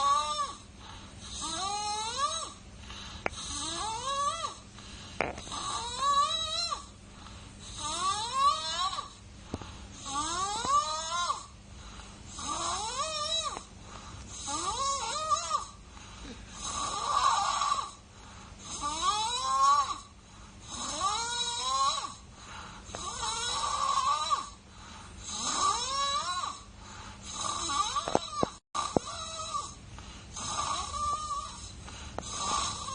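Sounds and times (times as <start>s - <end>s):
baby snoring: 0.0s - 0.6s, 1.2s - 2.6s, 3.2s - 4.6s, 5.2s - 6.9s, 7.6s - 9.2s, 10.0s - 11.6s, 12.3s - 13.7s, 14.3s - 24.6s, 25.2s - 32.9s.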